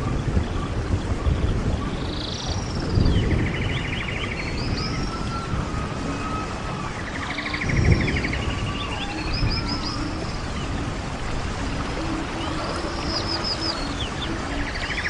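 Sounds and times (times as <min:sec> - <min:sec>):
birds chirping and whistling: 0:00.1 - 0:15.0.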